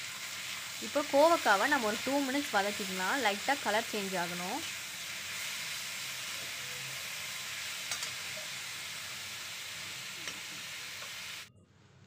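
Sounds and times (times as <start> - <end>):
vegetables sizzling in hot oil: 0.0 - 11.5.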